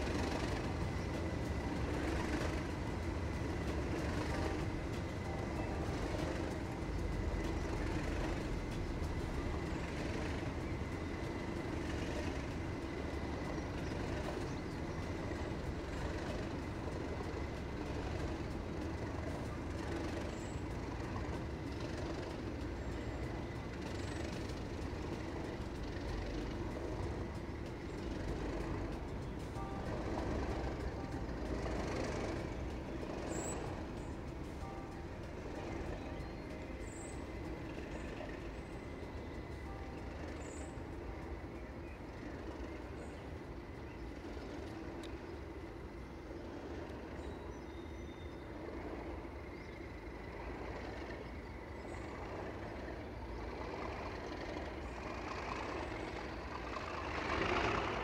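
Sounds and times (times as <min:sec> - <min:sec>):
diesel locomotive engine running: 0:00.0 - 0:58.0
thin steady whine: 0:00.0 - 0:58.0.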